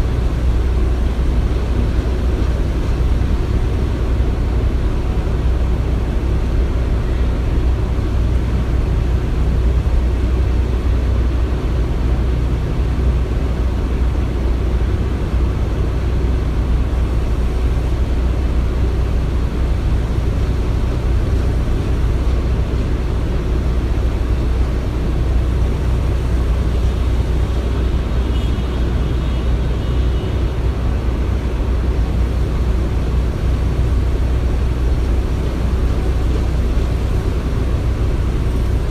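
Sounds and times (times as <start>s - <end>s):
construction machinery rumbling: 0.0s - 38.9s.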